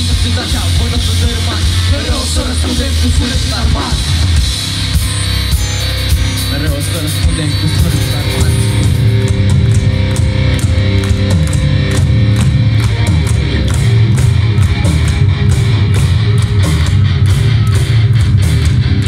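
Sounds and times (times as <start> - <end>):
bass guitar: 0.0 - 19.0
distorted electric guitars: 0.0 - 19.0
drum kit beat with cymbals: 0.0 - 19.0.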